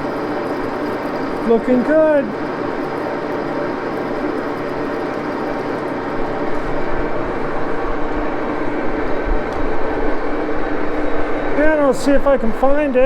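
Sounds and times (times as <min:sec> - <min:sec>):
metal lathe humming: 0:00.0 - 0:12.8.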